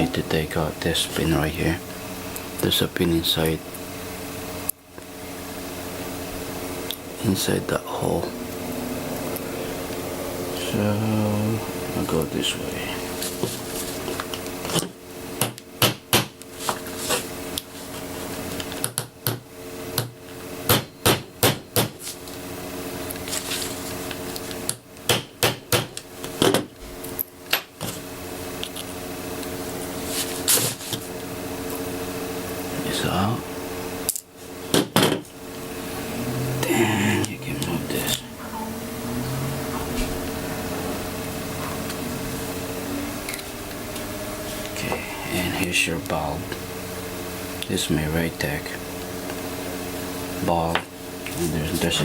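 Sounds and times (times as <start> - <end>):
low background hum: 0.0 - 52.0.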